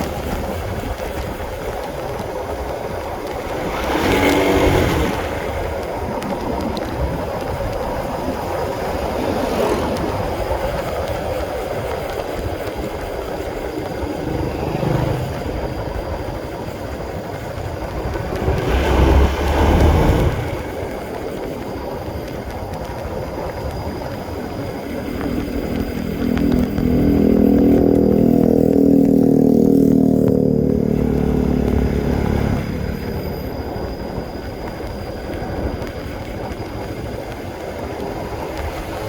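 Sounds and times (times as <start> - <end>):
motorcycle engine under way: 0.0 - 39.0
wind and road noise: 0.0 - 39.0.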